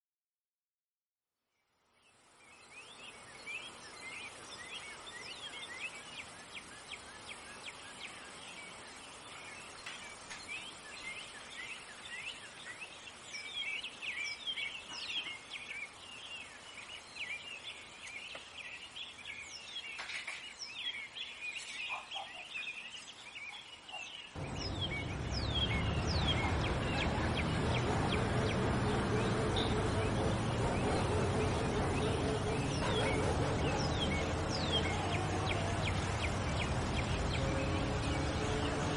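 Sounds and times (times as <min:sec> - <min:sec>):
chorus of birds chirping: 0:02.1 - 0:38.9.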